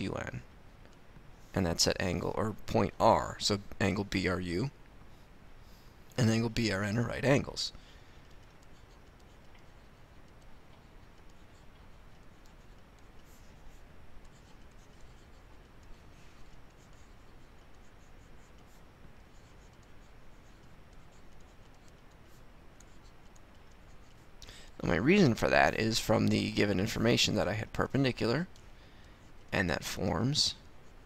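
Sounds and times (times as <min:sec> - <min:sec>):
low background hiss: 0:00.0 - 0:31.0
stylus scratching on tablet: 0:01.5 - 0:04.7, 0:06.2 - 0:31.0.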